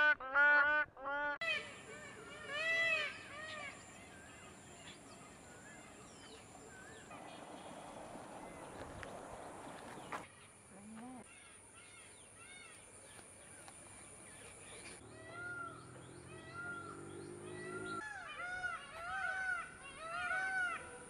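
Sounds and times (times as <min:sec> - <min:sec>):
birds chirping: 0:01.4 - 0:21.0.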